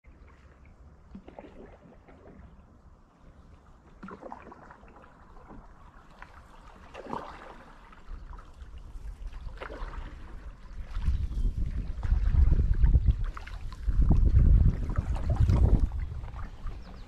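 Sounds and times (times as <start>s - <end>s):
paddle strokes in water: 0.0s - 17.0s.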